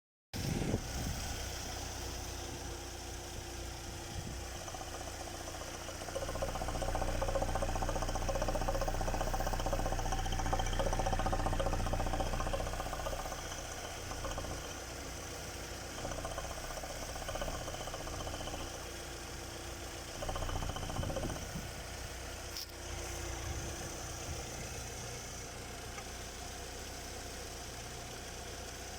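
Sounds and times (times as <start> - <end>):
car engine idling with knocking: 0.4 - 28.9.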